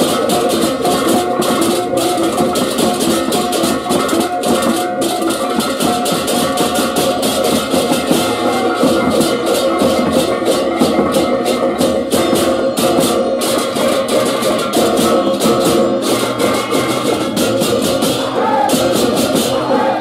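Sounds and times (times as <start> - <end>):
hand cymbals clashing: 0.0 - 19.7
drums: 0.0 - 20.0.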